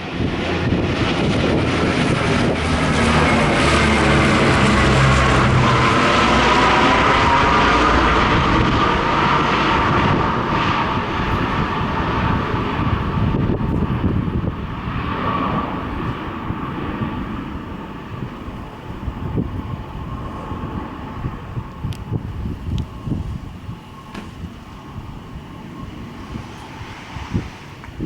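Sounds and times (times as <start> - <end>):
turboprop aircraft droning overhead: 0.0 - 28.0.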